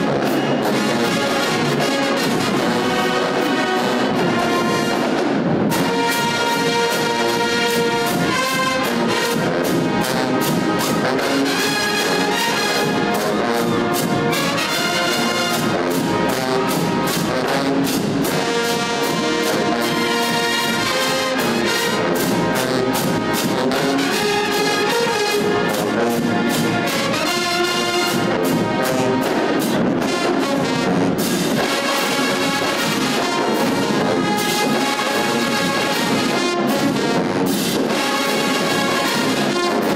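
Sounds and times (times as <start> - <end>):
brass and woodwinds playing: 0.0 - 39.9.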